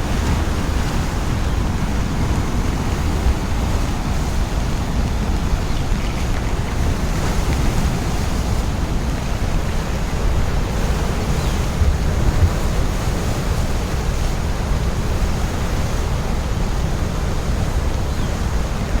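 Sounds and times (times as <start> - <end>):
floodwater roaring: 0.0 - 19.0.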